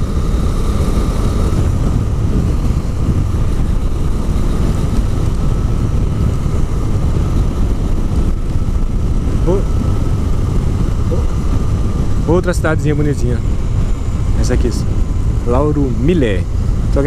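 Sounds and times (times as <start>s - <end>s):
motorcycle engine running: 0.0s - 17.0s
wind rush on microphone: 0.0s - 17.0s.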